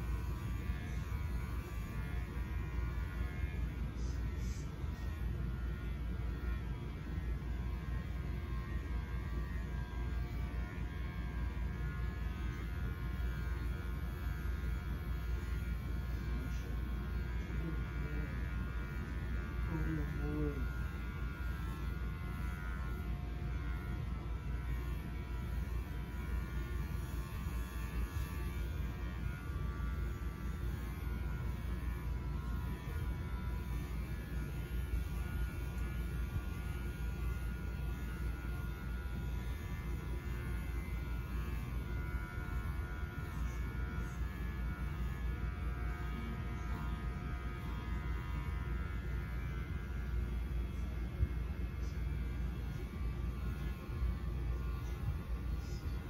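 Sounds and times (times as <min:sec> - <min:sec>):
electric clippers humming: 0:00.0 - 0:56.0.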